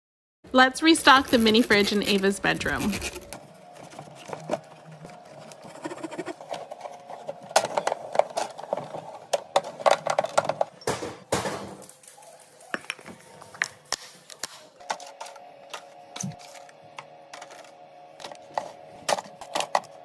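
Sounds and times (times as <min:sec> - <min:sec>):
items clinking and knocking: 0:01.0 - 0:20.0.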